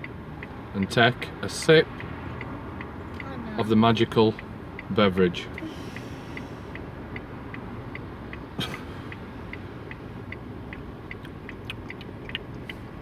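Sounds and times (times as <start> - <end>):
car indicator relay ticking: 0.0 - 13.0
low steady rumble: 0.0 - 13.0.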